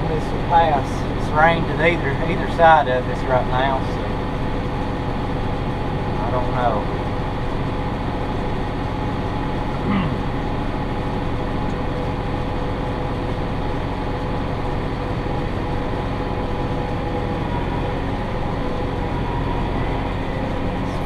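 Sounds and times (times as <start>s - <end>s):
tractor engine drone: 0.0s - 21.0s.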